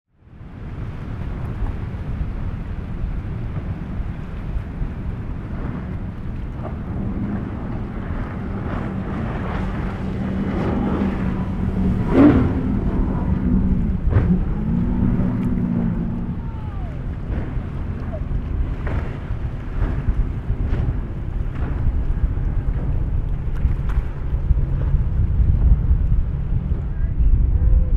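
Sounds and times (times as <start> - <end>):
outboard motors running: 0.2 - 27.9
wind on microphone: 0.2 - 27.9
water splashing: 0.7 - 27.1.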